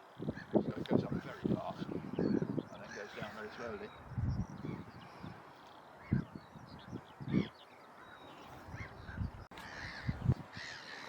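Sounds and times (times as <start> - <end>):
waterbirds calling: 0.0 - 11.0.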